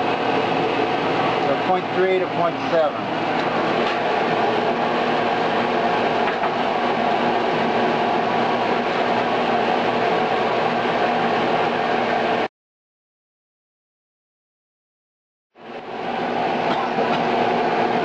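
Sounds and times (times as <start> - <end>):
blower humming: 0.0 - 12.5, 15.6 - 18.0.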